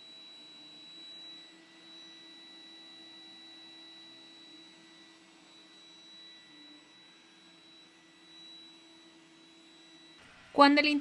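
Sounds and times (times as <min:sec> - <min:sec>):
robot vacuum motor whine: 0:00.0 - 0:11.0.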